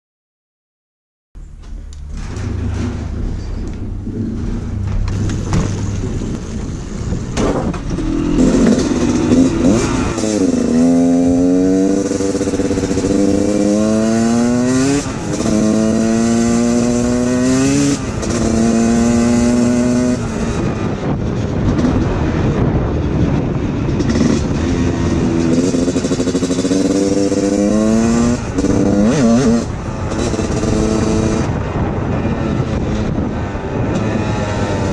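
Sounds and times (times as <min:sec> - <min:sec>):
dirt bike engine accelerating: 0:01.4 - 0:34.9.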